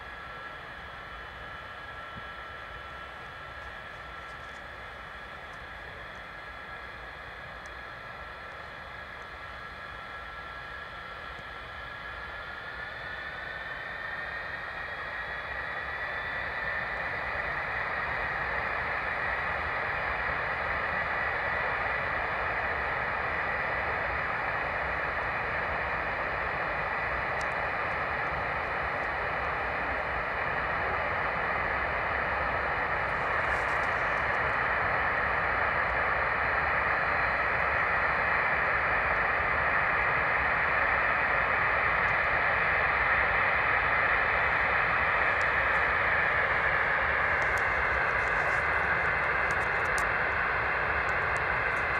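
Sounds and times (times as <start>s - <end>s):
jet engines roaring with whine: 0.0s - 51.9s.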